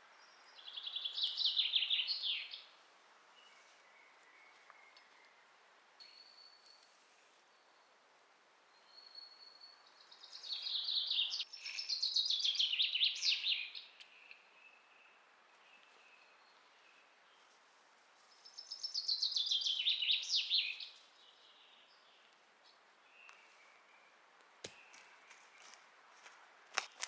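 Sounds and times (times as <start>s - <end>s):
faint outdoor hiss: 0.0s - 27.0s.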